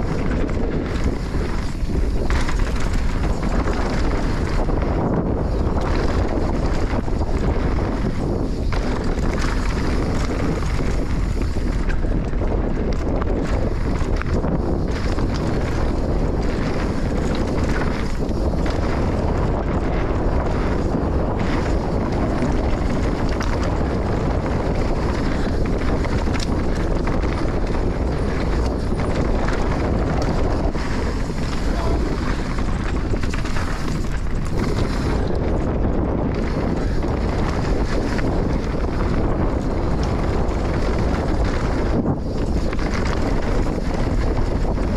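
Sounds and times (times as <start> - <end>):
dirt bike engine: 0.0 - 44.9
wind buffeting microphone: 0.0 - 44.9.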